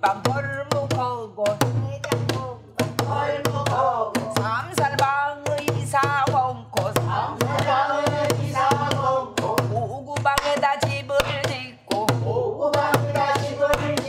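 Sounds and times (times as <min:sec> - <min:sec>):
woman singing: 0:00.0 - 0:14.0.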